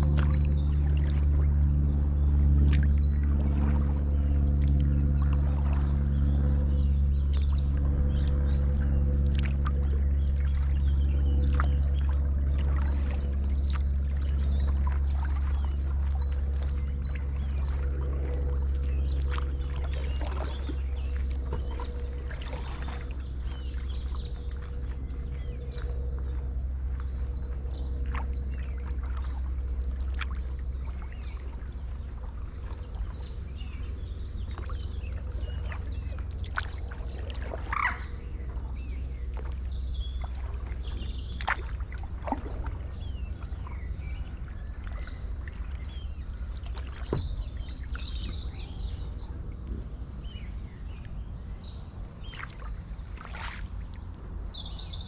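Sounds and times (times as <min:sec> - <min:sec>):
birds chirping: 0:00.0 - 0:55.0
low steady rumble: 0:00.0 - 0:55.0
paddle splashing water: 0:00.0 - 0:55.0.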